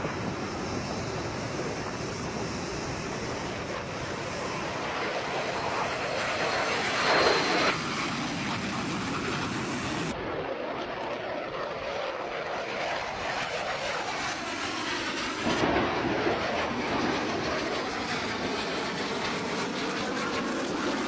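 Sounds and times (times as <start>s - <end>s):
fighter jet flying past: 0.0s - 21.0s.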